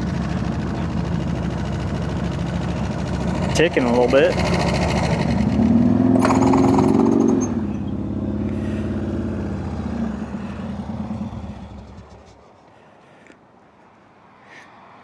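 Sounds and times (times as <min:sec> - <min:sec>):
motorcycle engine revving and idling: 0:00.0 - 0:12.4.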